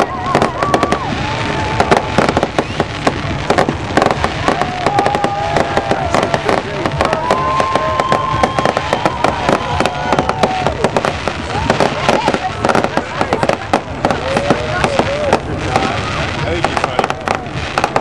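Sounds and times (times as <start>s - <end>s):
crowd voices: 0.0s - 18.0s
fireworks banging and crackling: 0.0s - 18.0s.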